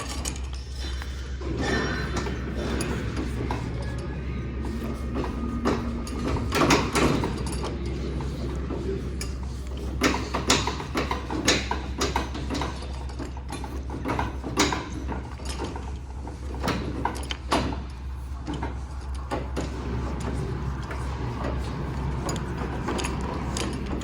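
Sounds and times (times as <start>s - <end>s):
metallic clanks and clicks: 0.0s - 24.0s.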